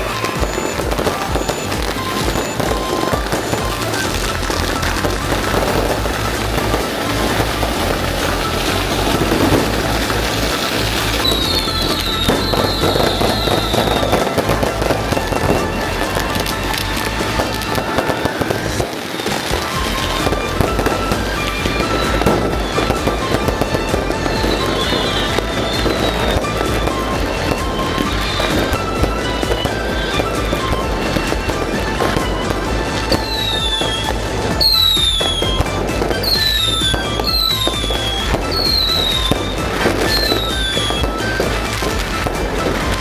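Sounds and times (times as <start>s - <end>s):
fireworks crackling and popping: 0.0s - 43.0s
music: 0.0s - 43.0s.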